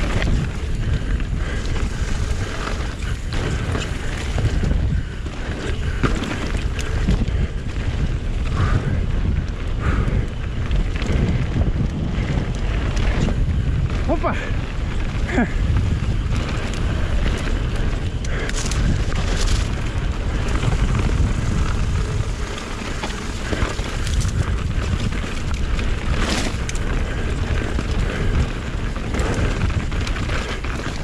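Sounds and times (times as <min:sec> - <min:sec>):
bike knocking and rattling: 0:00.0 - 0:31.0
wind buffeting microphone: 0:00.0 - 0:31.0.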